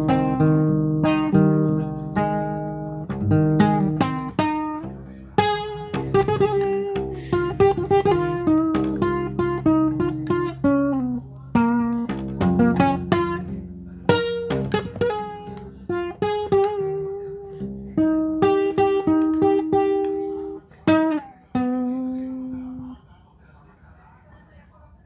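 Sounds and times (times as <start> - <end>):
solo guitar melody: 0.0 - 23.0.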